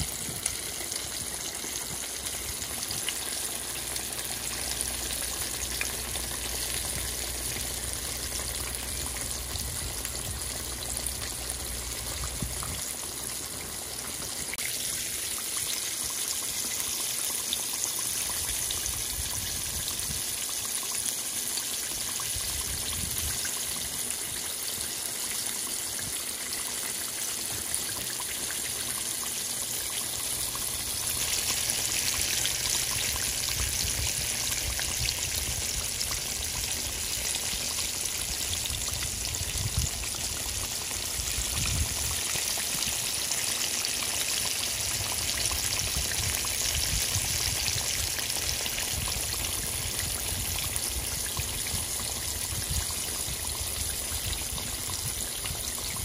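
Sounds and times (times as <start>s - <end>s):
fish deep-frying in hot oil: 0.0s - 56.0s.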